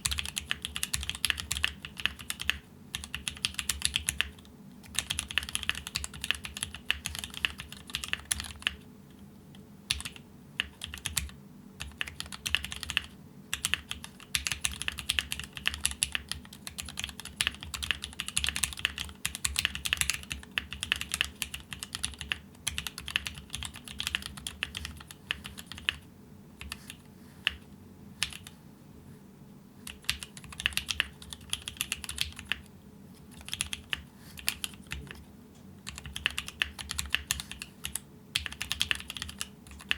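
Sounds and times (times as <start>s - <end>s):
mechanical keyboard typing: 0.0s - 8.8s, 9.9s - 26.0s, 26.6s - 27.6s, 28.2s - 28.6s, 29.8s - 32.7s, 33.3s - 35.2s, 35.8s - 39.9s.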